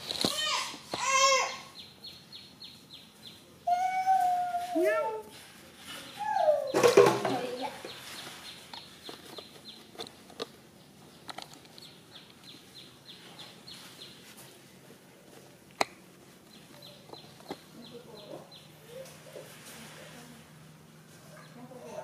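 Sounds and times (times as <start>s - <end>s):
faint bird chirping: 1.1s - 14.7s, 16.4s - 20.6s.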